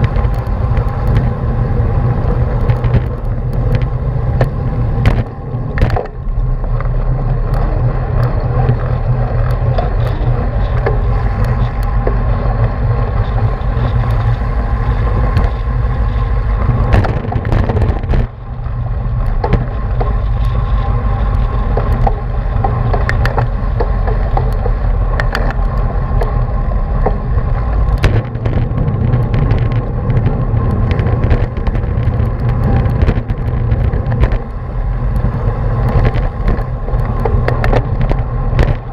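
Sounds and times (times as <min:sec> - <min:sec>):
bike clicks and knocks: 0:00.0 - 0:38.9
tyres on asphalt: 0:00.0 - 0:38.9
wind rumble: 0:00.0 - 0:38.9.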